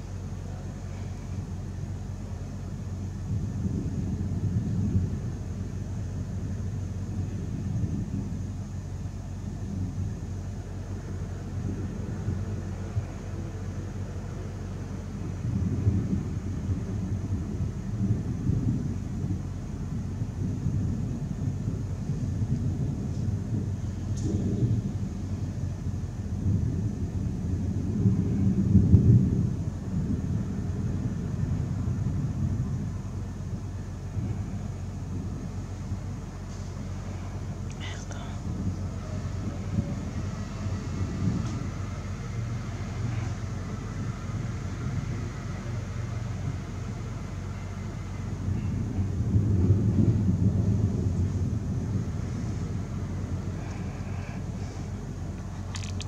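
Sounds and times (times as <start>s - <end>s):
distant thunder rumbling: 0.0s - 37.7s, 38.4s - 56.0s.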